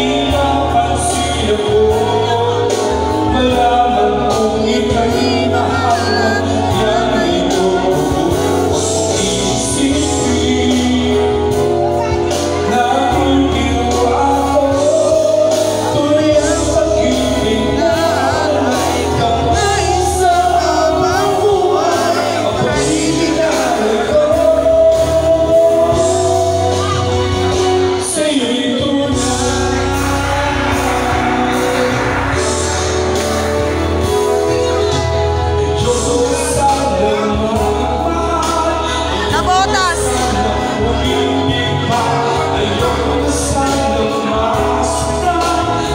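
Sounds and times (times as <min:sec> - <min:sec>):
instrumental backing with bass line: 0:00.0 - 0:45.9
person singing into a microphone: 0:00.0 - 0:45.9.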